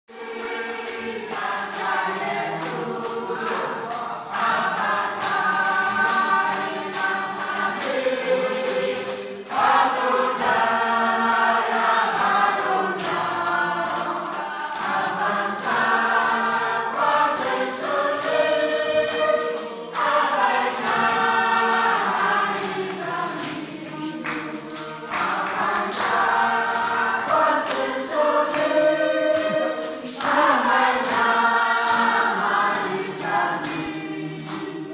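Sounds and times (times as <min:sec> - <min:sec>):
women's choir singing: 0:00.1 - 0:34.9
hand claps: 0:00.2 - 0:34.9.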